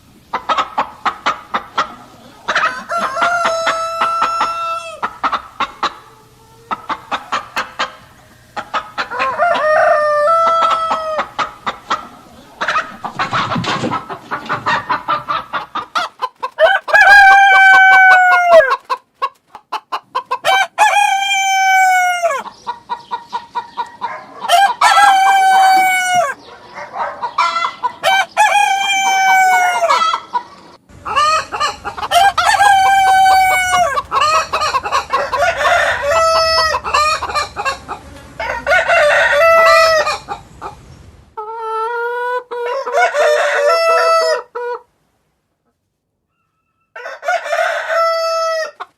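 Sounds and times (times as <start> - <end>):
hens clucking: 0.0 - 44.9
roosters crowing: 1.7 - 19.0, 20.3 - 40.8, 42.5 - 44.8, 46.4 - 48.9.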